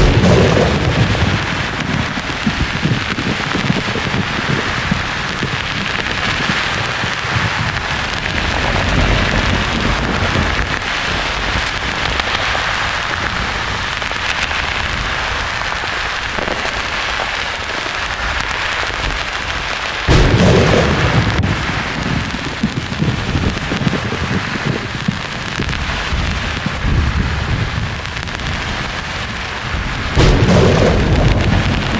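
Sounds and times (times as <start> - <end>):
loud thunderclap: 0.0 - 13.9, 20.1 - 31.9
thunder rumbling: 0.0 - 16.9, 20.1 - 31.9
rain: 0.0 - 31.9.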